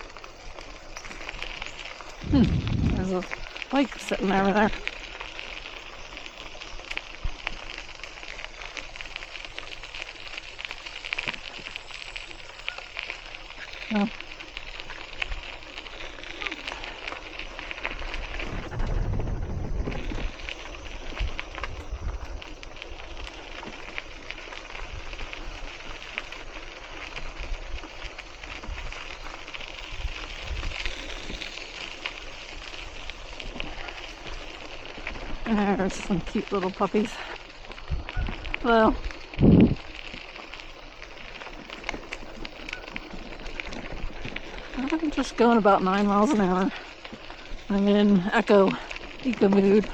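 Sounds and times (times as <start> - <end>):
wind rumble on microphone: 0.0 - 11.5, 13.6 - 49.9
patter of small crackles and ticks: 0.0 - 49.9.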